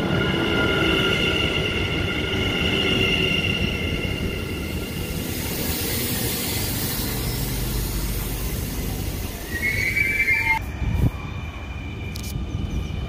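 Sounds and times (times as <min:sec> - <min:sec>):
passenger train rumble: 0:00.0 - 0:13.0
train high squeal: 0:00.0 - 0:13.0.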